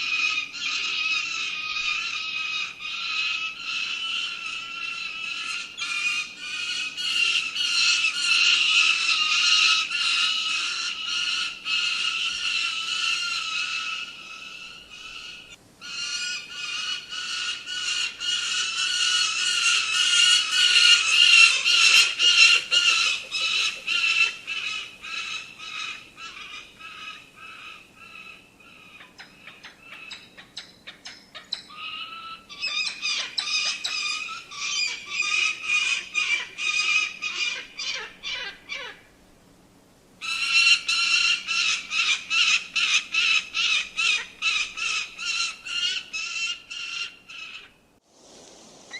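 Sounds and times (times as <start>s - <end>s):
falcon calling: 0.0s - 39.0s, 40.2s - 47.8s.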